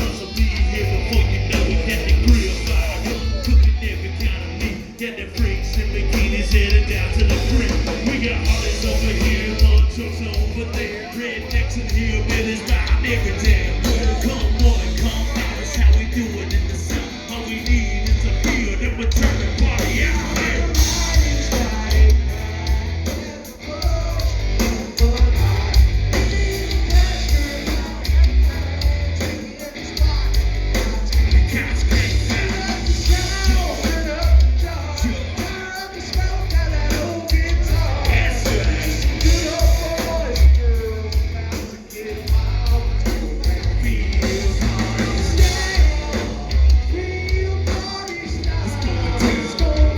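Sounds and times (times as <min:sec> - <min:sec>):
heavy pulsing bass beat: 0:00.0 - 0:49.9
person singing: 0:00.0 - 0:49.9.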